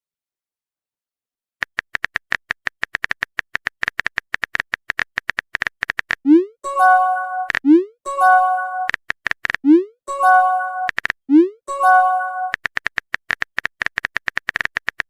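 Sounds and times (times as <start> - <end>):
keyboard typing clicks: 1.6 - 15.0.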